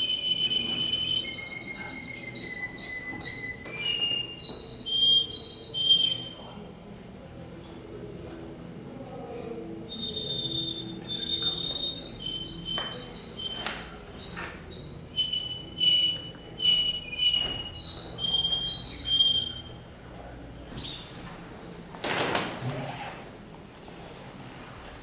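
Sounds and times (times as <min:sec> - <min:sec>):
canary singing: 0:00.0 - 0:06.5, 0:08.6 - 0:19.8, 0:20.8 - 0:22.4, 0:23.2 - 0:25.0.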